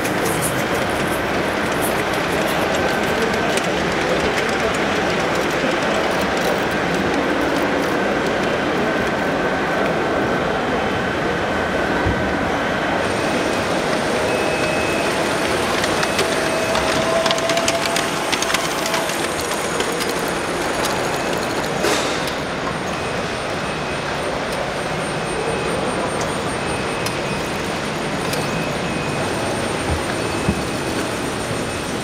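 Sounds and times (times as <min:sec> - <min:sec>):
model train wheels clicking: 0:00.0 - 0:09.9, 0:13.0 - 0:32.0
busy hall noise: 0:00.0 - 0:32.0.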